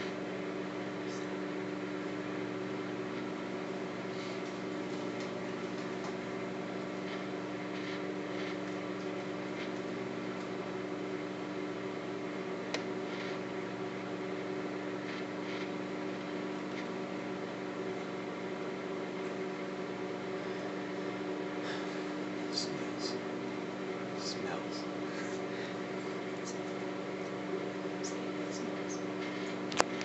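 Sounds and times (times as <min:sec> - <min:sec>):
microwave oven humming: 0:00.0 - 0:30.0.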